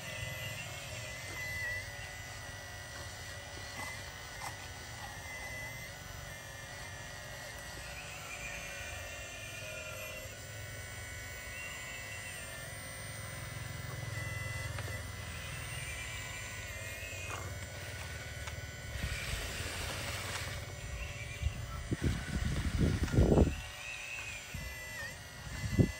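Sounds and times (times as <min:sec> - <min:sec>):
excavator motors whining: 0:00.0 - 0:25.9.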